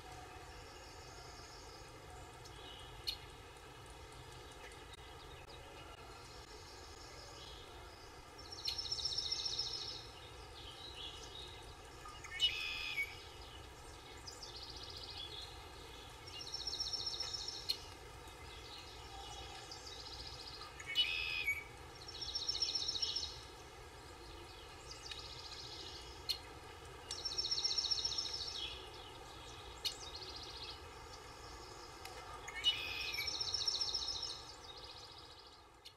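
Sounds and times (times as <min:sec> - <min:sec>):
faint outdoor background: 0:00.0 - 0:35.9.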